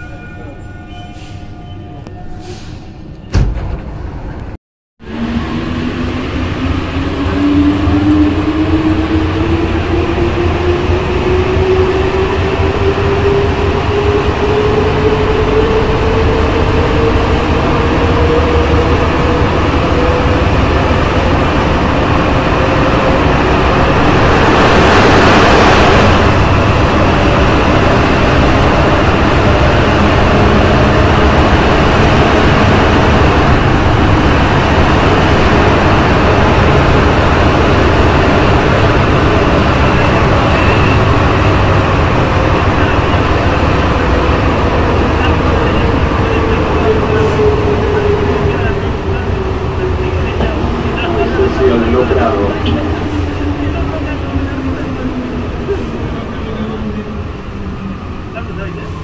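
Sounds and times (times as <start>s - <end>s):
train rumbling in tunnel: 0.0s - 59.0s
rush of noise: 5.0s - 59.0s.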